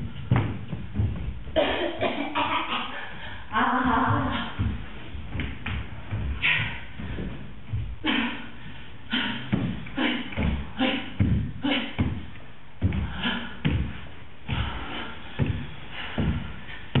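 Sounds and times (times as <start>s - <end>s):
irregular thumps: 0.0s - 17.0s.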